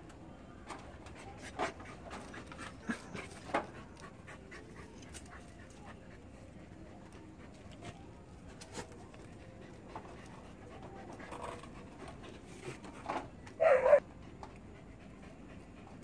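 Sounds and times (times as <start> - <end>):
dog panting and sniffing: 1.0 - 16.0.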